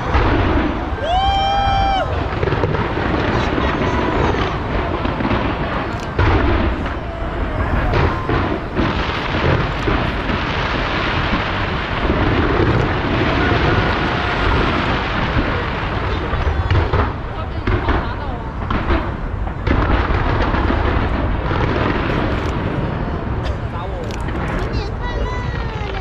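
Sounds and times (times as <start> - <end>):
fireworks booming and crackling: 0.0 - 26.0
loud fireworks bangs: 0.0 - 26.0.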